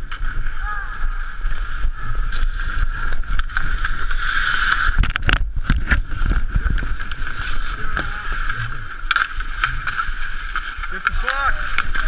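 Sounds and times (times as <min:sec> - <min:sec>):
hockey skates on ice: 0:00.0 - 0:12.0.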